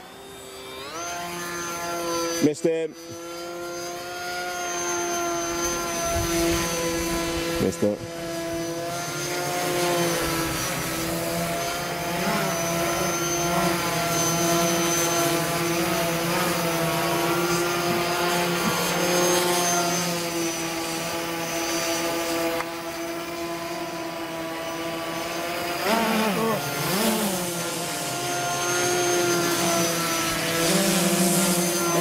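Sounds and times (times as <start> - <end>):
model plane motor whining: 0.0 - 32.0.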